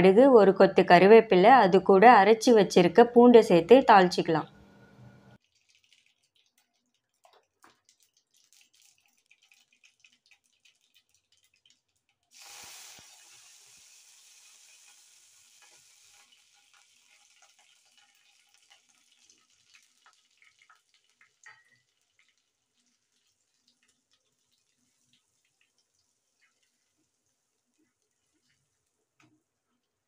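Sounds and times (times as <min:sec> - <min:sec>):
loud sizzle in oil: 0:05.4 - 0:29.9
seeds crackling in hot oil: 0:05.4 - 0:30.0.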